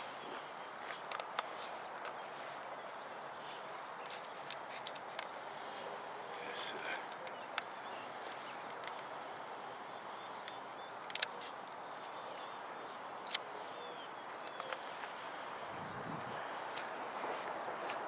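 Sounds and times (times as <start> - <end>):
small birds chirping: 0.0 - 18.0
steady background hiss: 0.0 - 18.0.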